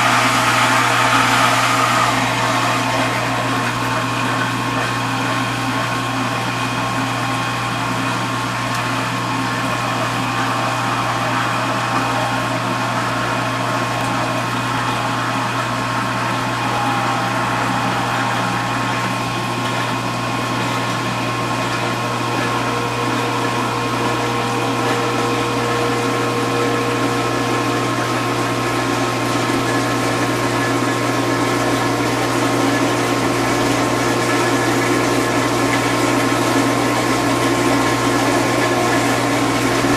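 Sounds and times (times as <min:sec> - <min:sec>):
dishwasher motor and pump hum: 0:00.0 - 0:39.9.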